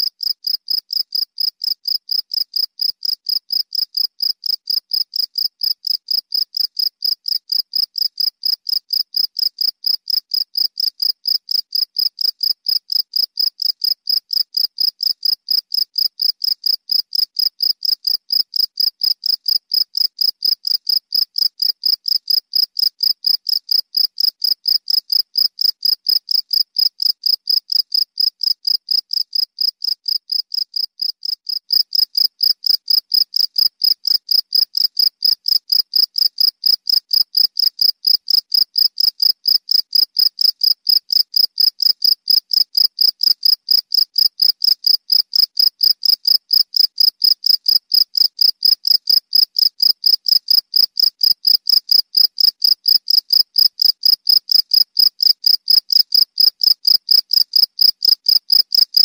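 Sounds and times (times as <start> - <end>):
cricket chirping: 0.1 - 59.0.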